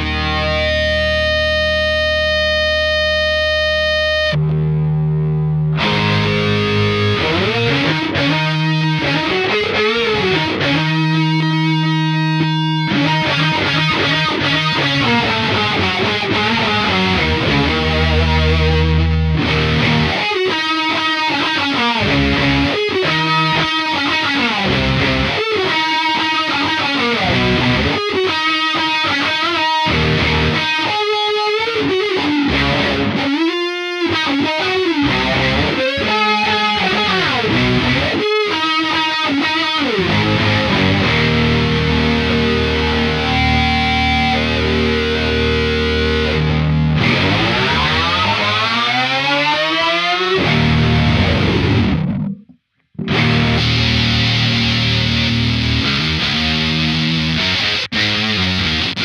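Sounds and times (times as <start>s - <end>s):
distorted electric bass riff: 0.0s - 59.0s.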